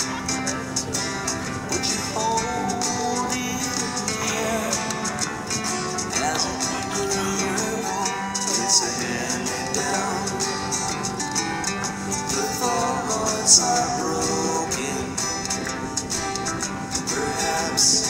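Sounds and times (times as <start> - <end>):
song with guitar and singing: 0.0 - 18.0.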